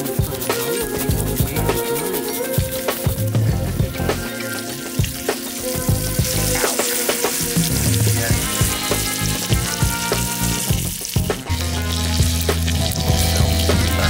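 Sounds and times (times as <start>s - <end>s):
steaks sizzling in a skillet: 0.0s - 14.0s.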